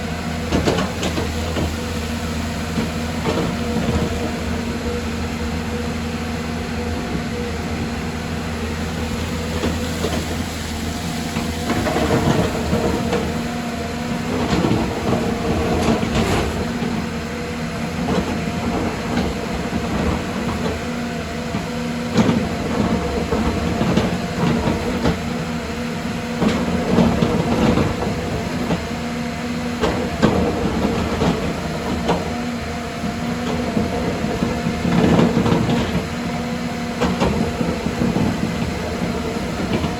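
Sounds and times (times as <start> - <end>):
excavator diesel engine running: 0.0 - 39.9
machine clanks and knocks: 0.4 - 4.6, 8.9 - 17.2, 17.9 - 29.0, 29.6 - 39.9.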